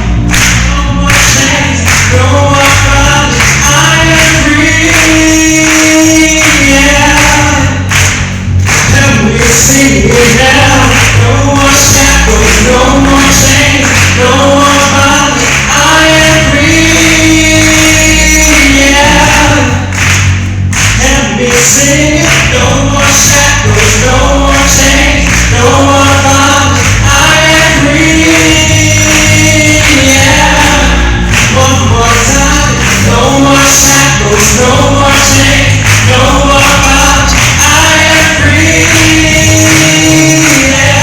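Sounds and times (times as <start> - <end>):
band accompaniment: 0.0 - 41.0
group of voices singing: 0.0 - 41.0.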